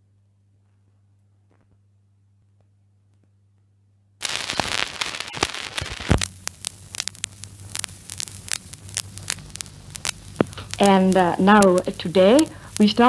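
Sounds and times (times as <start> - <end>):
faint low hum: 0.0 - 13.0
record crackle and pops: 0.0 - 13.0.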